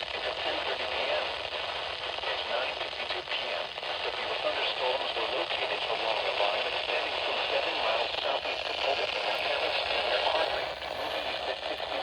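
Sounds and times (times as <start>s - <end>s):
radio static and hiss: 0.0s - 12.0s.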